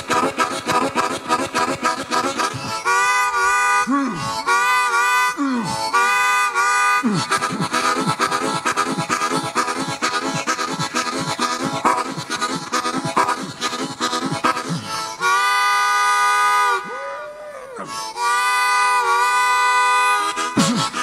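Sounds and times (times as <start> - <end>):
blues harmonica imitating a train: 0.0 - 21.0.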